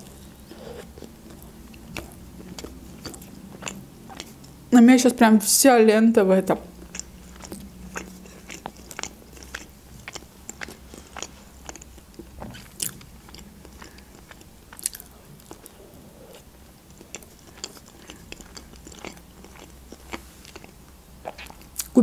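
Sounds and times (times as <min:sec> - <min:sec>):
person chewing food: 0:00.0 - 0:04.7, 0:06.7 - 0:21.9.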